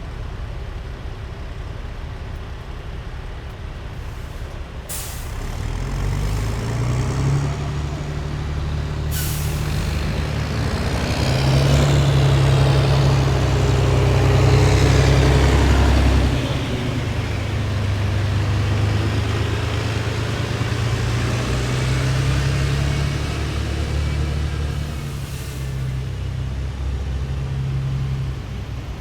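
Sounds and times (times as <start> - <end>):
heavy vehicle engine rumble: 0.0 - 29.0.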